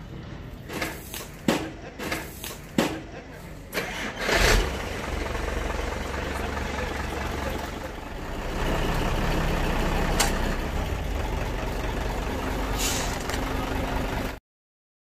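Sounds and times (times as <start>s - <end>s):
diesel truck engine idling: 0.0s - 14.4s.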